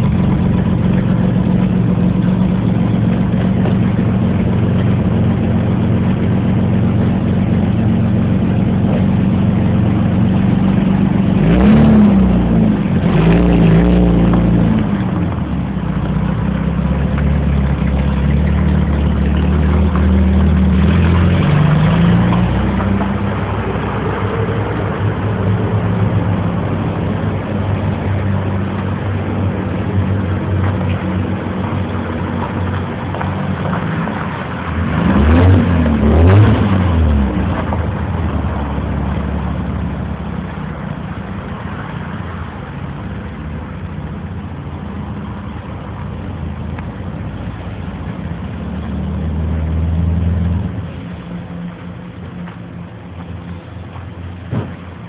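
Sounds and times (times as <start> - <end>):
car engine running and revving: 0.0 - 55.0.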